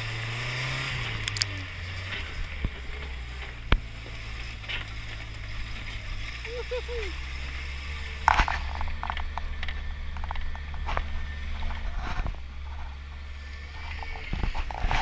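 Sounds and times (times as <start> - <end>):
tires clicking over stones: 0.0 - 15.0
vehicle engine rumble: 0.0 - 15.0.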